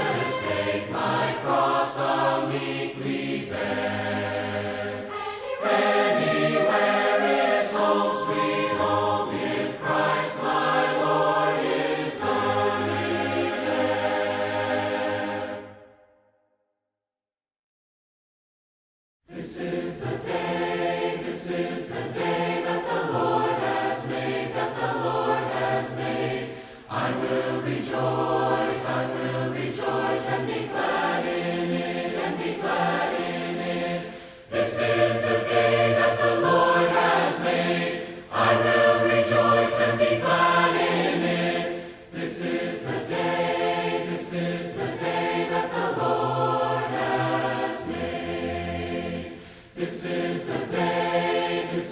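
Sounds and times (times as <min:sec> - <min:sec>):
voices singing a hymn a cappella: 0:00.0 - 0:15.9, 0:19.3 - 0:51.9.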